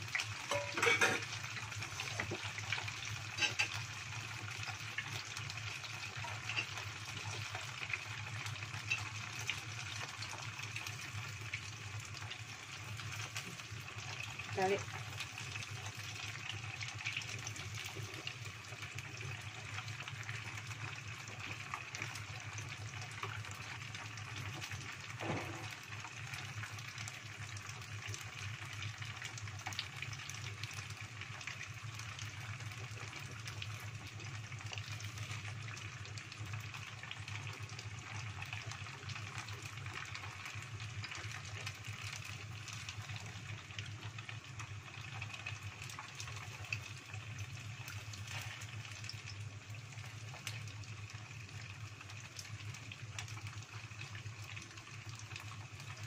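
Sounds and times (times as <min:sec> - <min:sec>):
deep-frying sizzle: 0:00.0 - 0:56.0.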